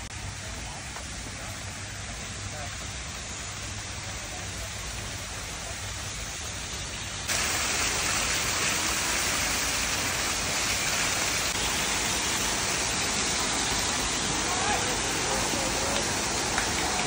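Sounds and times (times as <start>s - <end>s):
waterfall splashing into pool: 0.0s - 17.0s.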